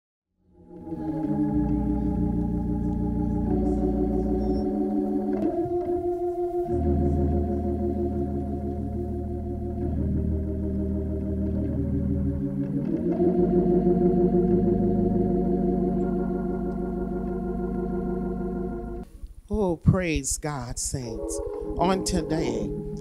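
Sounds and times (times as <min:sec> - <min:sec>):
organ playing held chords: 0:00.4 - 0:19.2, 0:20.2 - 0:23.0.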